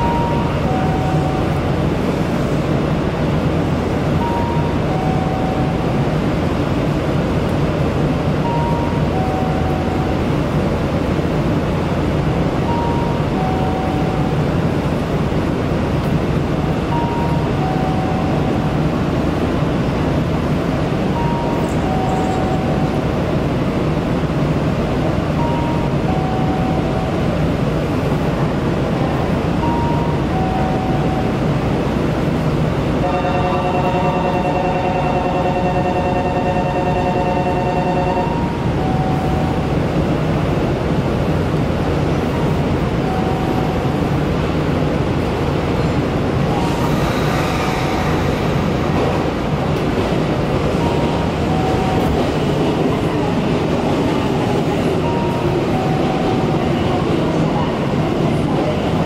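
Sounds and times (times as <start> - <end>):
train humming and hissing: 0.0 - 59.0.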